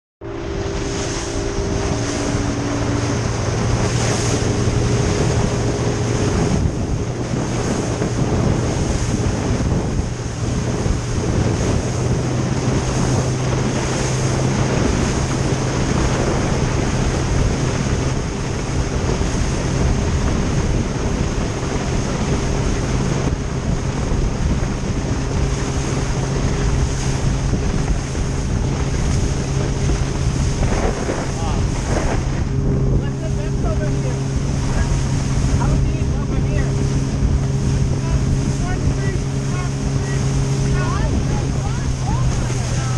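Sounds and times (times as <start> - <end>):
boat engine humming: 0.2 - 42.9
water rushing past hull: 0.2 - 42.9
wind buffeting microphone: 0.2 - 42.9.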